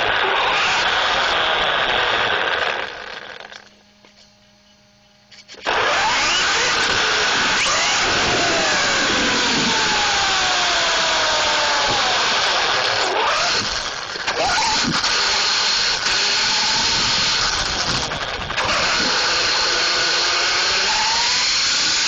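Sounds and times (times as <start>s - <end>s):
rc truck tyre and drivetrain rush: 0.0s - 3.7s, 5.3s - 22.0s
low steady hum: 0.0s - 21.2s
electric motor whine: 0.0s - 22.0s.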